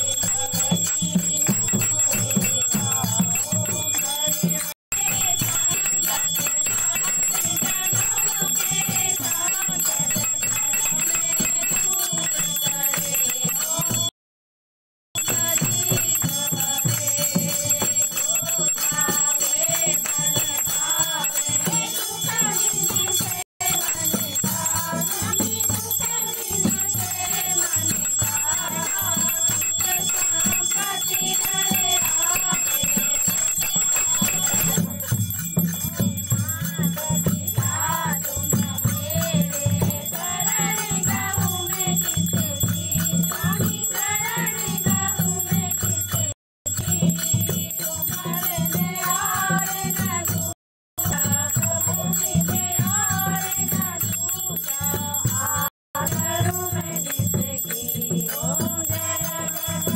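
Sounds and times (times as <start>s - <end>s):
bell ringing: 0.0s - 14.1s, 15.2s - 50.3s, 51.0s - 59.9s
women singing a hymn: 0.0s - 14.1s, 15.2s - 35.1s, 35.8s - 46.2s, 47.5s - 59.9s.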